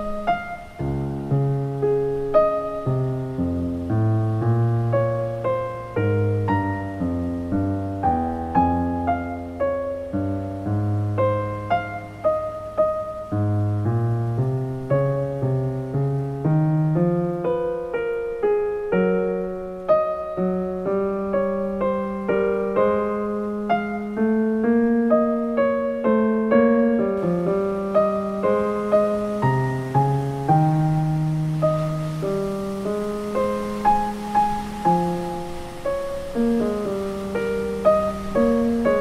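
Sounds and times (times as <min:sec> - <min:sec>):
calm piano melody: 0:00.0 - 0:39.0.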